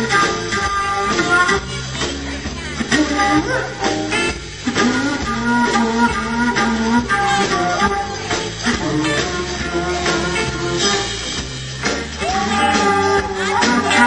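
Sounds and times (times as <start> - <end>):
person singing: 0.0 - 11.2, 12.2 - 14.0
rock band with guitar: 0.0 - 14.0.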